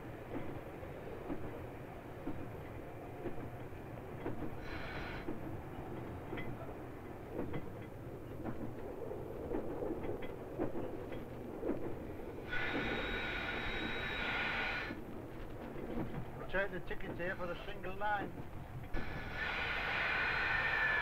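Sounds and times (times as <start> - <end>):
wheels clicking over rail joints: 0.0 - 14.2, 14.8 - 21.0
railcar rumbling: 0.0 - 21.0.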